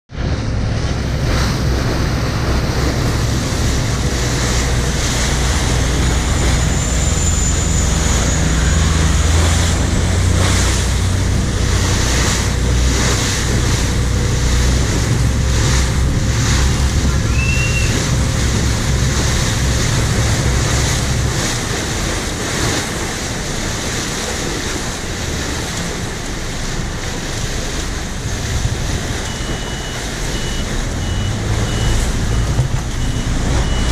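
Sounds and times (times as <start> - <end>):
boat engine droning: 0.1 - 33.9
water rushing and splashing: 0.1 - 33.9.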